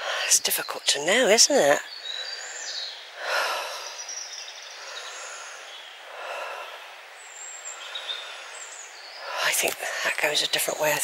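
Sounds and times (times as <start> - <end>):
faint bird calls: 0.0 - 11.0.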